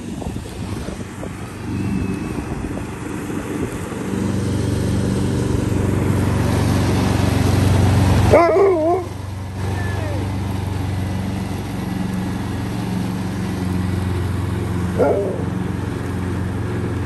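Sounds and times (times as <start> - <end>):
ride-on lawn mower engine: 0.0 - 17.0.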